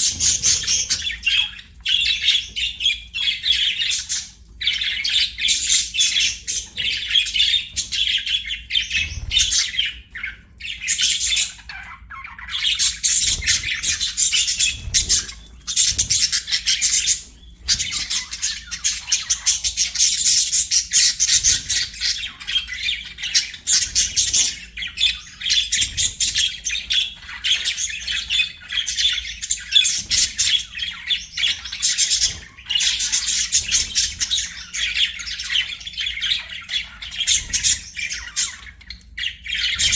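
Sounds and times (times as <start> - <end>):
budgies chirping rapidly: 0.0 - 39.9.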